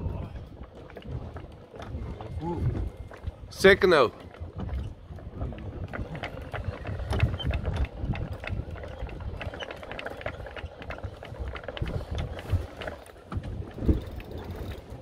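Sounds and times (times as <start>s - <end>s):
wind rumbling on microphone: 0.0s - 15.0s
fishing reels clicking and knocking: 0.2s - 15.0s.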